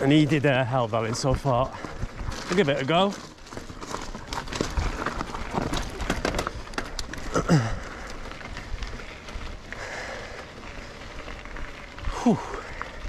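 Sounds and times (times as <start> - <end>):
bike tyres rattling on rocks: 0.0 - 13.0.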